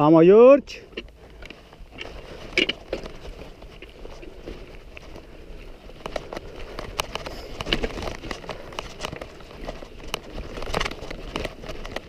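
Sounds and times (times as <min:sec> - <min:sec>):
footsteps crunching on stony trail: 0:00.7 - 0:12.0.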